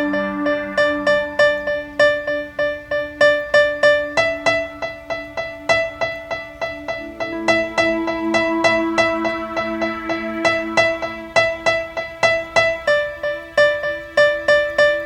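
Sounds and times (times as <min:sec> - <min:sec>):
ambient keyboard music: 0:00.0 - 0:15.0.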